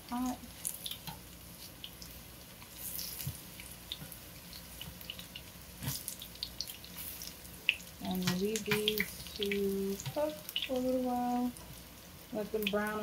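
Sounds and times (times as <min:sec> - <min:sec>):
oil crackling in a pan: 0:00.0 - 0:13.0.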